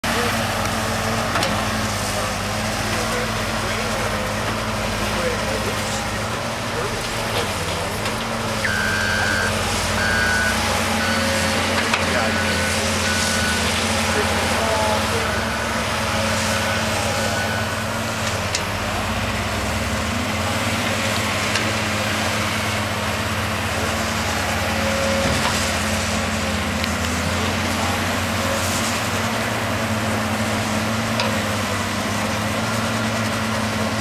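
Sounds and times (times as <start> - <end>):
diesel digger engine droning: 0.0 - 34.0.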